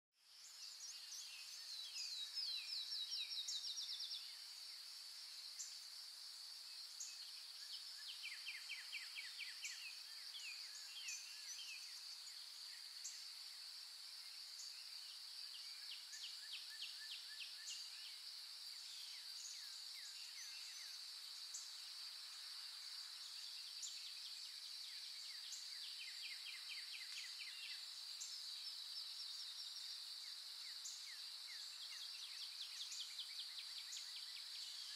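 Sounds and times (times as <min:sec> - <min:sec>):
high insect drone: 0:00.3 - 0:34.9.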